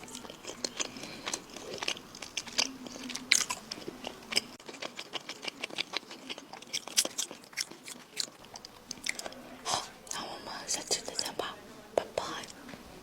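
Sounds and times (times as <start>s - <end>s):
wet chewing mouth clicks: 0.0s - 11.4s.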